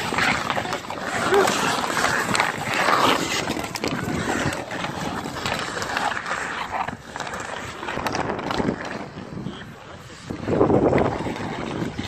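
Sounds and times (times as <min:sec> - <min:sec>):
hockey sticks clacking: 0:00.0 - 0:12.0
skate blades scraping ice: 0:00.0 - 0:12.0.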